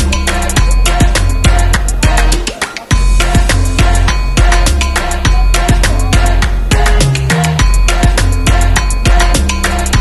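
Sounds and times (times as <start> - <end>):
background music with fast drum beat: 0.0 - 10.0.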